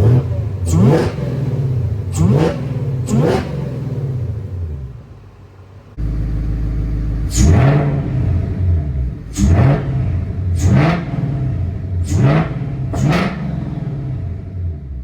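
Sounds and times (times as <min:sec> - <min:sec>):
car engine revving: 0:00.0 - 0:15.0
supercharger whine: 0:00.0 - 0:15.0.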